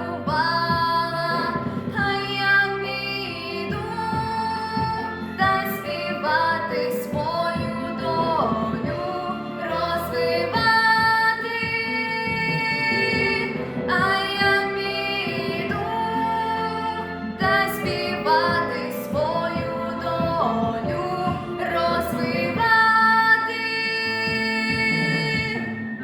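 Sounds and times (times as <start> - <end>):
girl singing: 0.0 - 25.6
instrumental backing track: 0.0 - 26.0.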